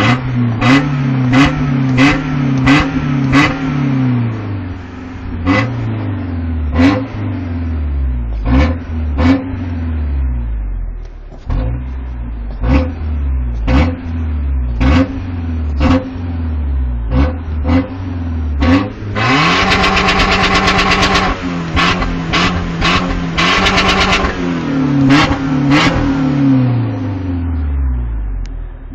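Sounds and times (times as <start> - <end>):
pickup engine revving: 0.0 - 28.9.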